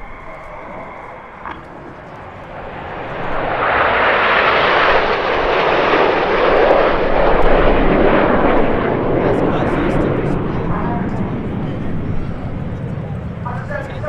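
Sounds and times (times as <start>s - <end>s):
jets flying past: 0.0s - 14.0s.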